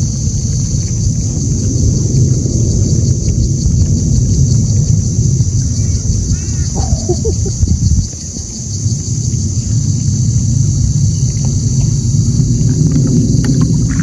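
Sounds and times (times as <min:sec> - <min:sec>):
insects droning: 0:00.0 - 0:14.0
wind buffeting microphone: 0:00.0 - 0:14.0.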